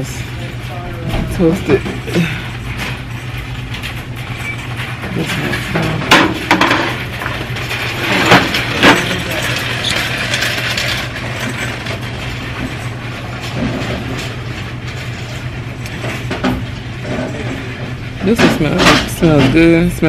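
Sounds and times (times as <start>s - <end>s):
rattling clatter: 0.0s - 20.0s.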